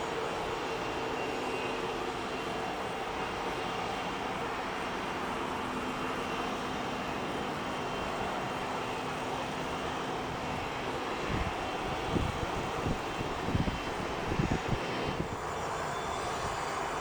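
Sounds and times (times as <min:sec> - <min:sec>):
distant aircraft engines droning: 0:00.0 - 0:17.0.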